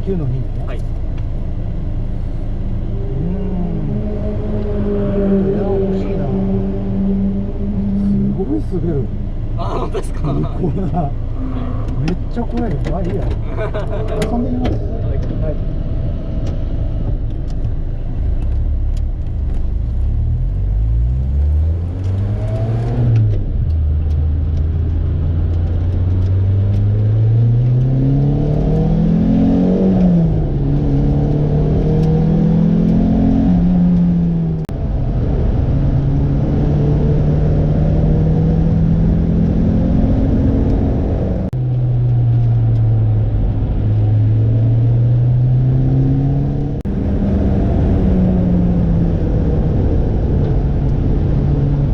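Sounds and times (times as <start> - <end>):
sports car engine accelerating: 0.2 - 51.9.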